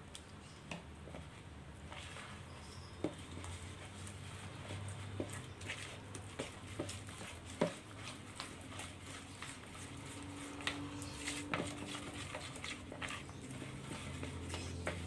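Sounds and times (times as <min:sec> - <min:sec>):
spatula stirring batter in bowl: 0:00.0 - 0:15.0.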